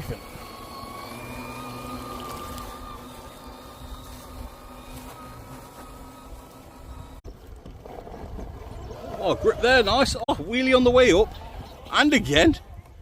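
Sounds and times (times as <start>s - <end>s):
toy crawler motor whining: 0.0s - 13.0s.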